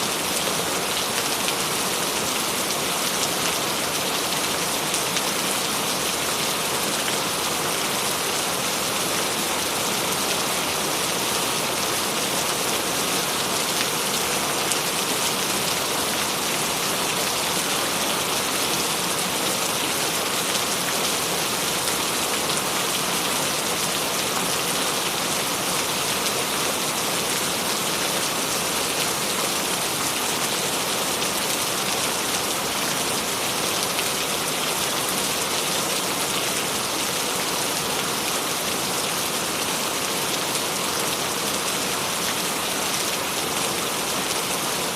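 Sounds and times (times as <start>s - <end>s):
rain pattering on a surface: 0.1s - 44.9s.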